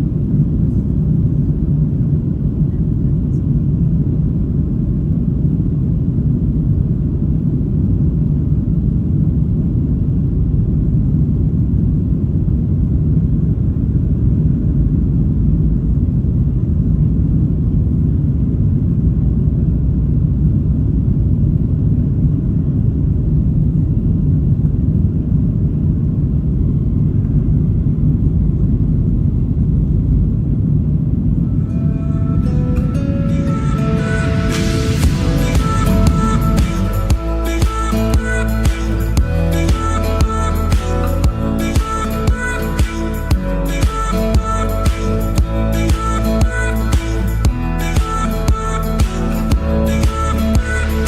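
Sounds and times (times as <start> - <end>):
airplane cabin engine rumble: 0.0 - 51.0.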